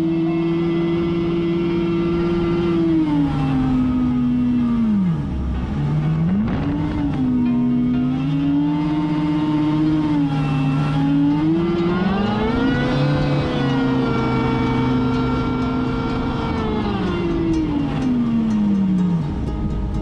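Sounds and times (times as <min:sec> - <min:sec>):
jet boat engine revving: 0:00.0 - 0:19.8.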